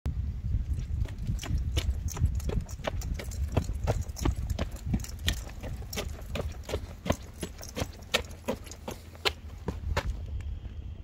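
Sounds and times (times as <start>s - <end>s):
steady low rumble: 0.1s - 11.0s
footsteps on asphalt: 0.6s - 11.0s.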